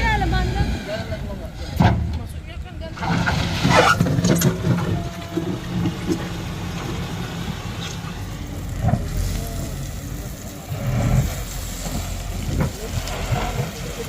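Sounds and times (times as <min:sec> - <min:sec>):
heavy vehicle engines running: 0:00.0 - 0:14.0.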